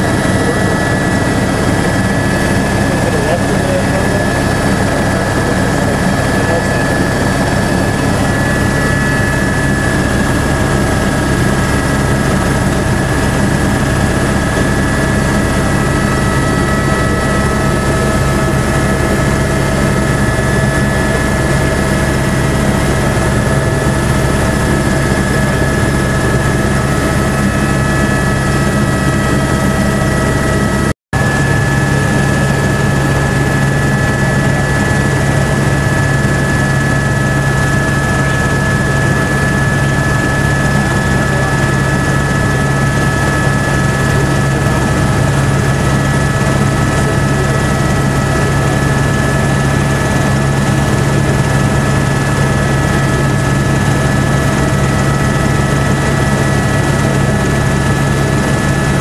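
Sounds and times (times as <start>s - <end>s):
constant high whine: 0.0s - 59.0s
helicopter rotor and engine drone: 0.0s - 59.0s.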